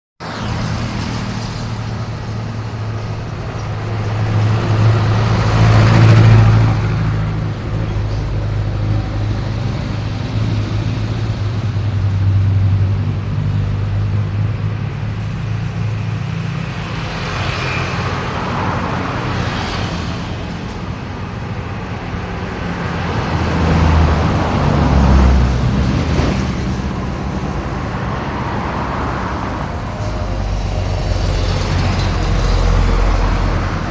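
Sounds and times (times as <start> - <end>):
road traffic hum: 0.2 - 33.9
vehicles passing: 0.2 - 33.9.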